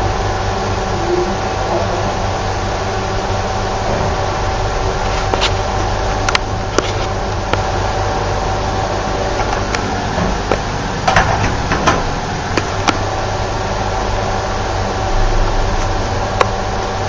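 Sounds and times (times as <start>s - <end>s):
elevator mechanical hum: 0.0s - 17.0s.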